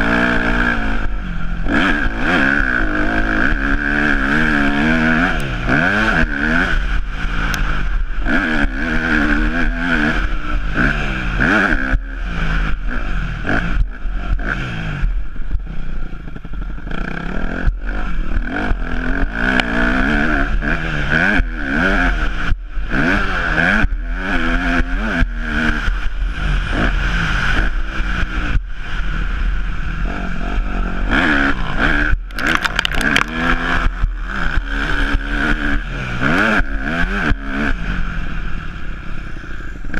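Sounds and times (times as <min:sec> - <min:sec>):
motocross bike engine revving: 0:00.0 - 0:39.9
steady rushing noise: 0:00.0 - 0:39.9.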